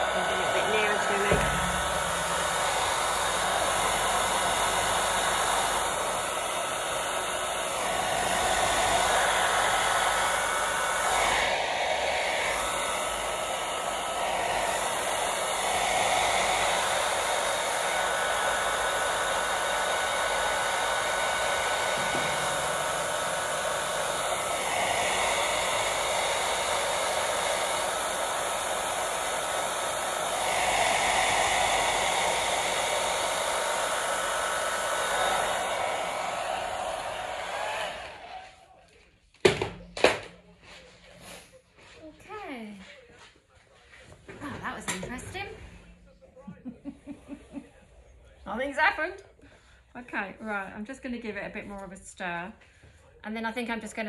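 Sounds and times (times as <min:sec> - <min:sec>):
hair dryer blowing: 0:00.0 - 0:43.3, 0:44.0 - 0:54.0.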